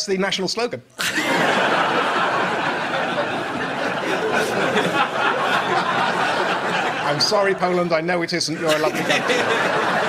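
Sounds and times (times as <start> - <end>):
audience laughing: 1.0 - 10.0.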